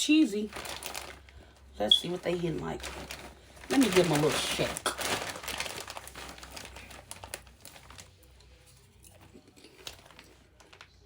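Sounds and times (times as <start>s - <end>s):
popcorn bag crinkling and rattling: 0.0s - 11.0s.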